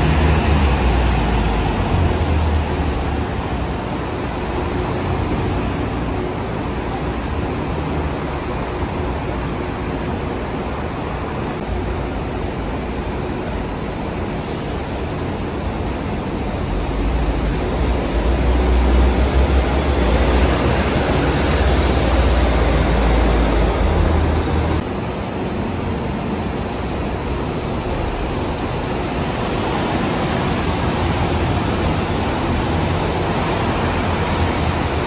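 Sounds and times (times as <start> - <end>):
bus engine rumbling: 0.0 - 35.0
lighter bus engine: 0.0 - 35.0.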